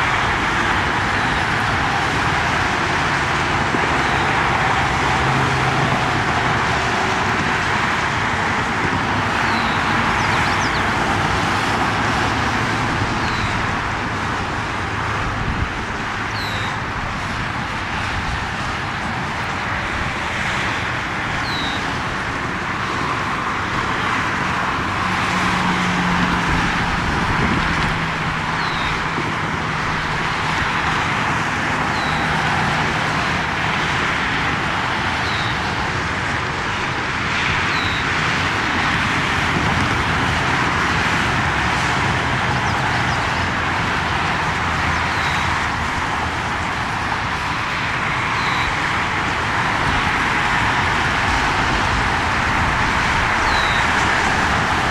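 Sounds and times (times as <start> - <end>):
passing vehicles engine noise: 0.0 - 54.9.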